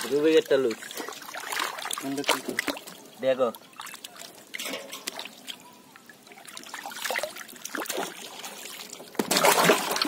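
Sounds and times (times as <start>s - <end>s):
muddy water trickling and splashing: 0.0s - 10.0s
water dripping from fish: 0.0s - 10.0s.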